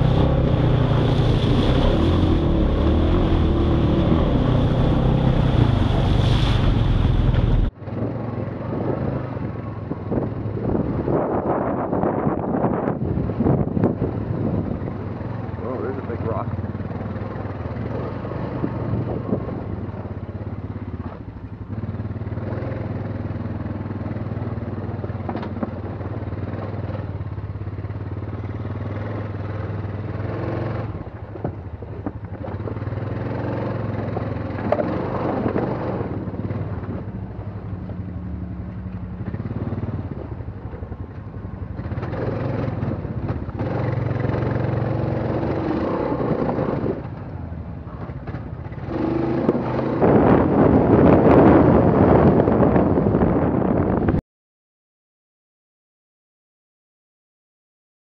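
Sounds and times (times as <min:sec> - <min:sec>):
atv engine running: 0:00.0 - 0:54.2.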